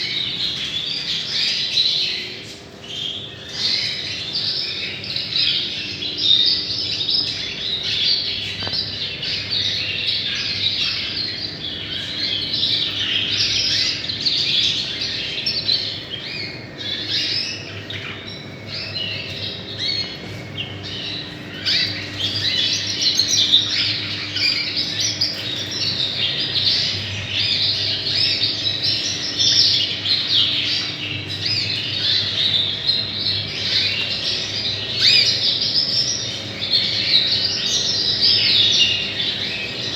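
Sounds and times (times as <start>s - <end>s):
many canaries singing: 0.0s - 39.9s.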